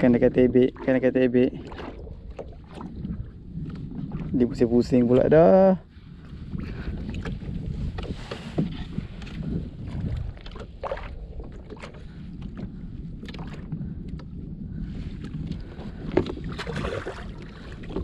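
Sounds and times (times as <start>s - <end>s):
wind rumble on microphone: 0.0s - 18.0s
small clicks and knocks from kayak: 1.6s - 5.4s, 6.2s - 14.5s, 15.1s - 18.0s.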